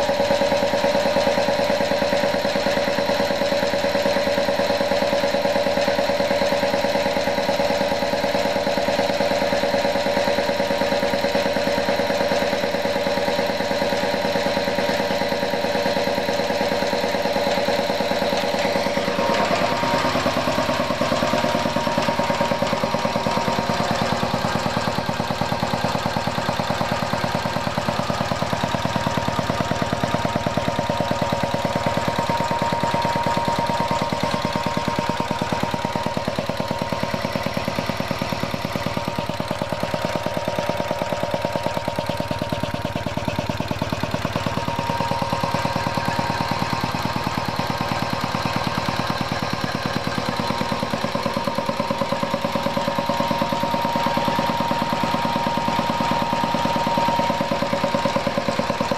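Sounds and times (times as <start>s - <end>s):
air compressor pump chugging: 0.0s - 58.9s.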